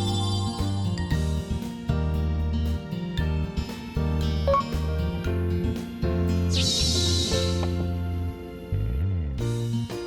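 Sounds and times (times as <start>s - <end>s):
steady bass: 0.0s - 10.0s.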